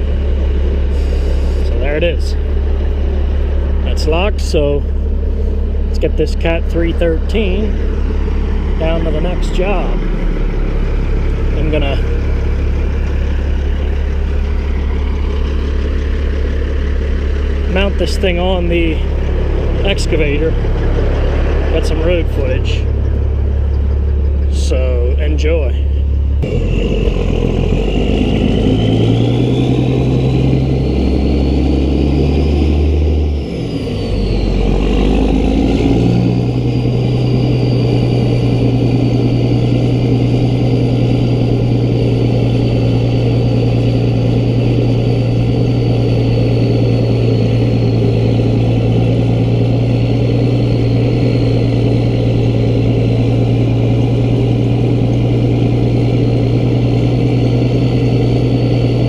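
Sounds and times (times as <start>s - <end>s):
high whine: 0.0s - 59.0s
road and wind noise: 0.0s - 59.0s
truck diesel engine: 0.0s - 59.0s.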